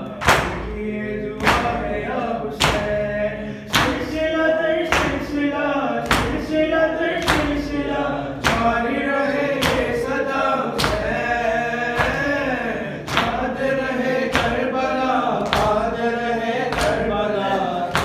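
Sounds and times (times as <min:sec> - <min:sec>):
people slapping chests in unison: 0:00.0 - 0:18.0.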